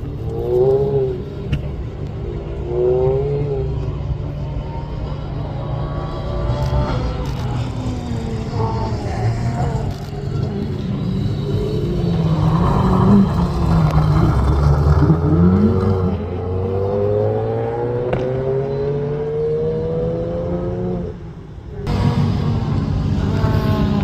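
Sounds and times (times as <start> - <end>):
rally car engine accelerating: 0.0 - 24.0.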